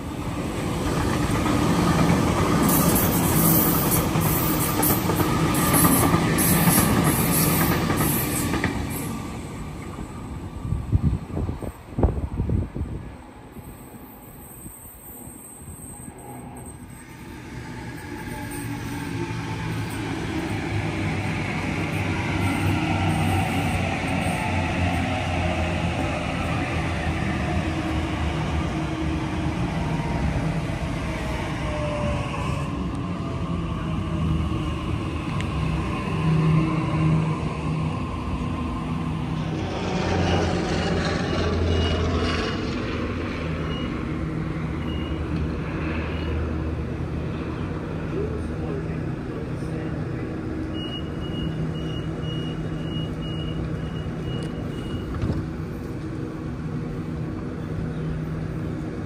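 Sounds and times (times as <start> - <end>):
wheels rushing on rail: 0.0 - 59.0.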